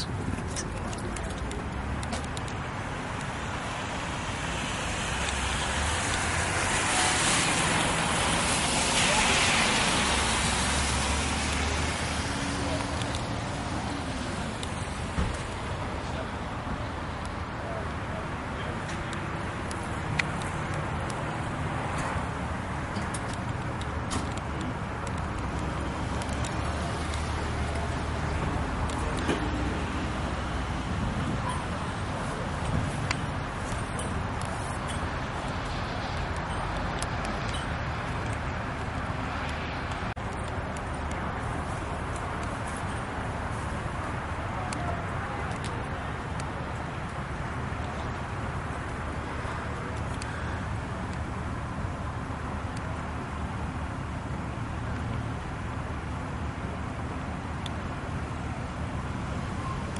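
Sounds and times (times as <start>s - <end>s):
vehicles rumbling: 0.0s - 59.9s.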